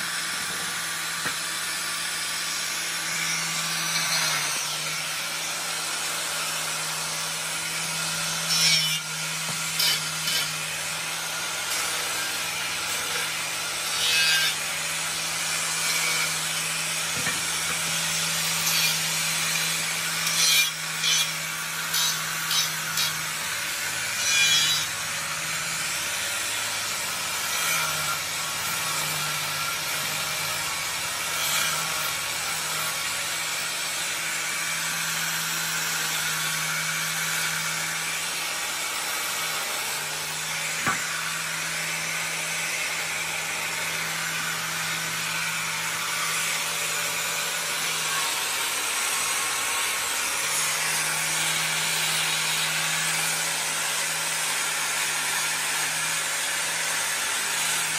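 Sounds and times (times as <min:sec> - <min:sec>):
angle grinder grinding wood: 0:00.0 - 0:57.9.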